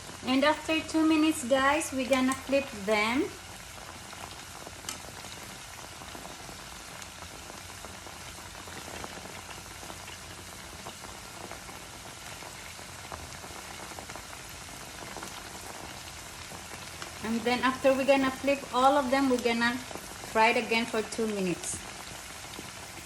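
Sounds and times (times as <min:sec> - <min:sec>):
chicken frying in oil: 0:00.0 - 0:23.0.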